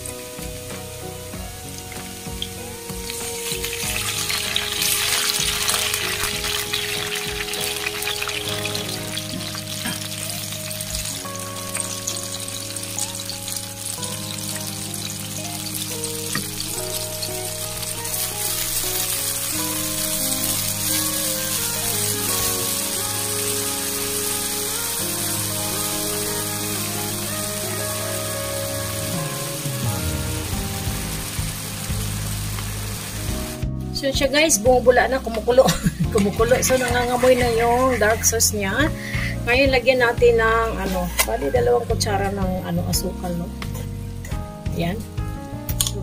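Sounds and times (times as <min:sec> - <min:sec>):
background music with stepped notes: 0:00.0 - 0:46.0
garlic sizzling in hot oil: 0:00.0 - 0:46.0.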